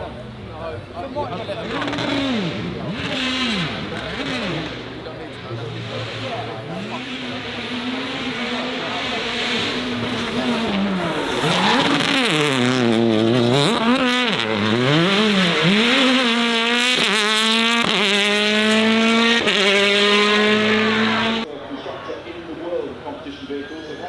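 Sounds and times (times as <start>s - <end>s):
race car engine revving: 0.0s - 21.5s.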